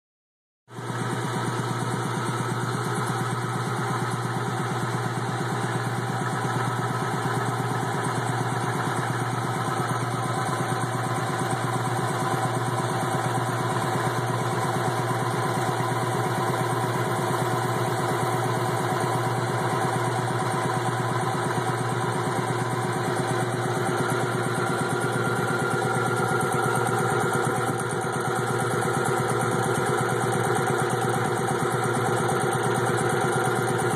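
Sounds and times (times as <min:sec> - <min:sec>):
air compressor humming: 0:01.9 - 0:33.9.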